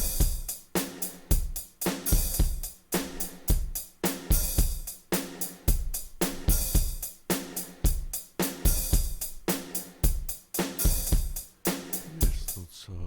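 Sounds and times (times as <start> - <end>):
drum kit beat: 0.0 - 12.7.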